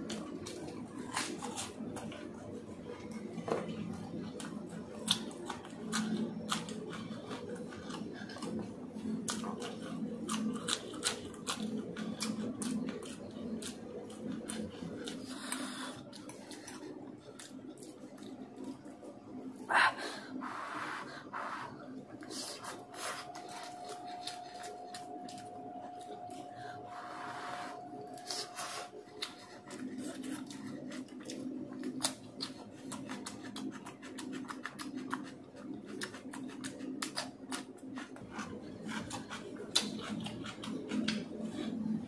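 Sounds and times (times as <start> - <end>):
chewing crunchy snack: 0.0 - 19.6, 22.1 - 26.8, 27.7 - 42.0.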